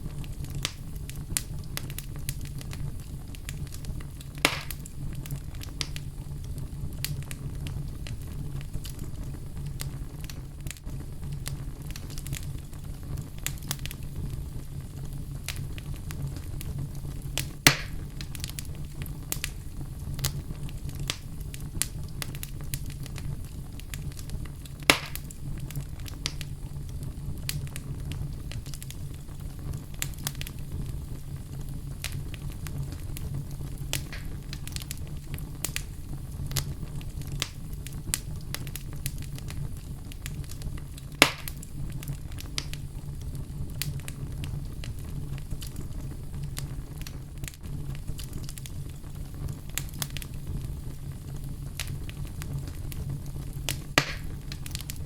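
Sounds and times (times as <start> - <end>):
fire popping: 0.0 - 55.0
low steady rumble: 0.0 - 55.0
wood fire crackling: 0.0 - 55.0.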